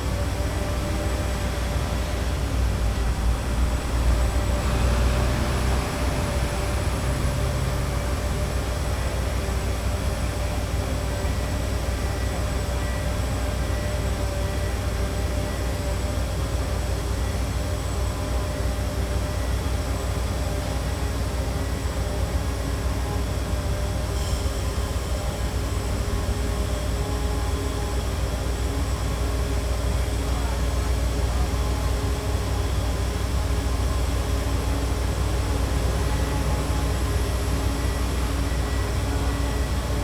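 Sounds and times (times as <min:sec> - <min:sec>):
construction machinery droning: 0:00.0 - 0:40.0.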